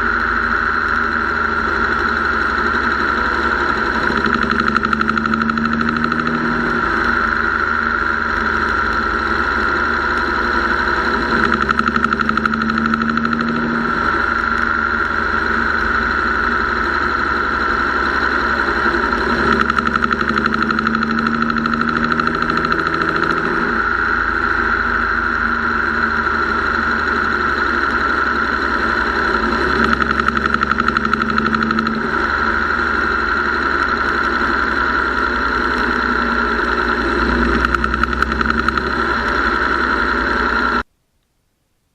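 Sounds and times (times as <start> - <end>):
engine ticking: 0.0 - 40.9
low hum: 0.0 - 41.9.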